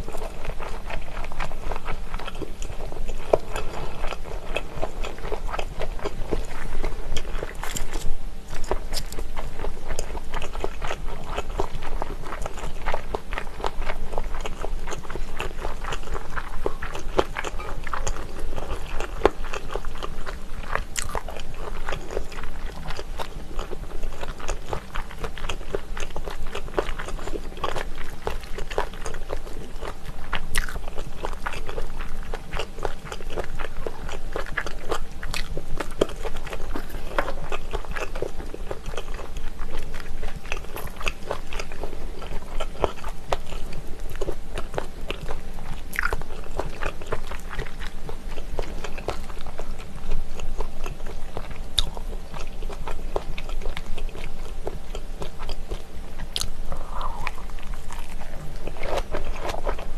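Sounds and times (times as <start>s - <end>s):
chewing with crunches: 0.0s - 59.9s.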